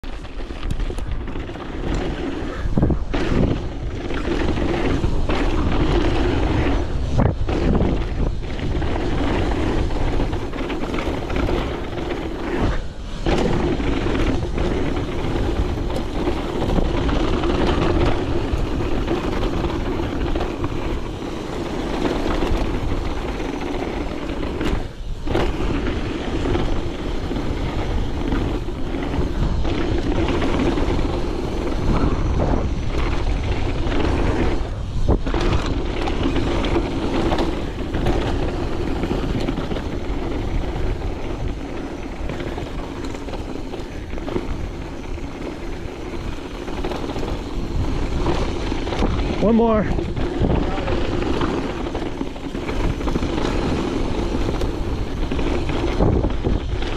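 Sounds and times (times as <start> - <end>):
bike rattling: 0.0 - 56.9
tyres rolling over dirt and gravel: 0.0 - 56.9
wind buffeting microphone: 0.0 - 56.9.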